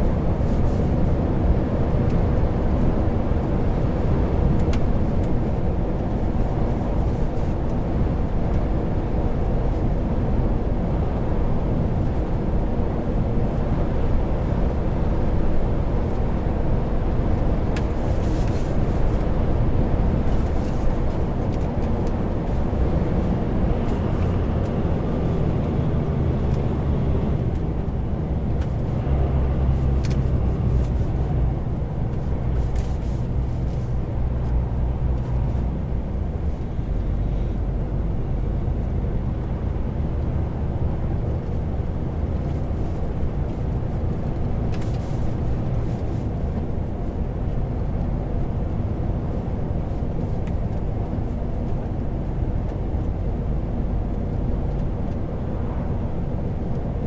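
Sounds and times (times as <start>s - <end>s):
road and tyre noise: 0.0s - 57.0s.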